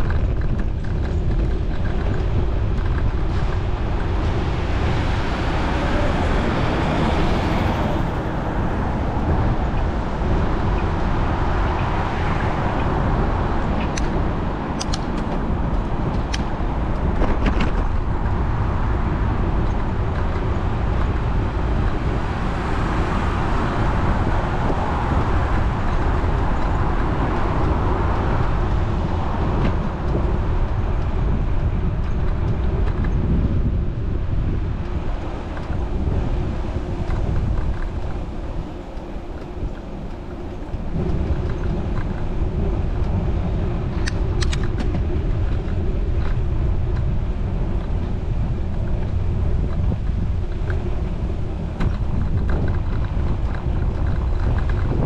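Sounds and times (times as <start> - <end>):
city road traffic rumble: 0.0 - 55.0
wind on microphone: 0.0 - 55.0.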